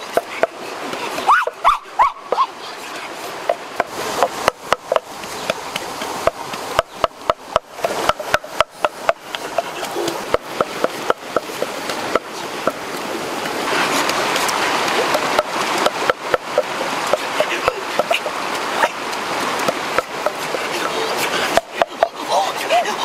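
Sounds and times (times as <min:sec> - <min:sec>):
rocky stream running: 0:00.0 - 0:23.0.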